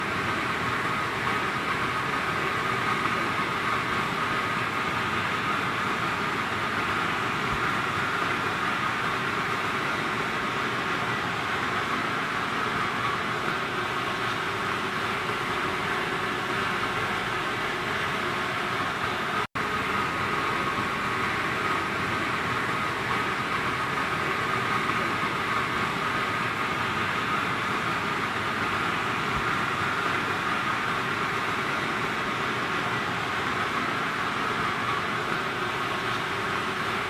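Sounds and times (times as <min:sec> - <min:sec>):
faint steady whine: 0:00.0 - 0:37.0
industrial boiler rushing: 0:00.0 - 0:37.0.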